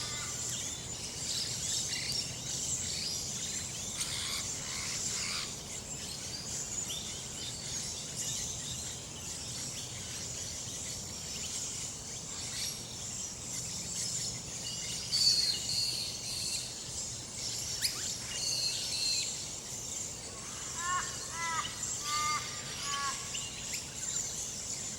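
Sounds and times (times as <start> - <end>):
birds chirping and calling: 0.0 - 24.9
steady high hiss: 0.0 - 24.9.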